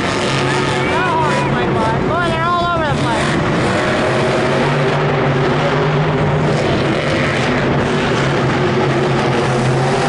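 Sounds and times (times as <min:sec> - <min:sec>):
loud truck engine running: 0:00.0 - 0:10.0.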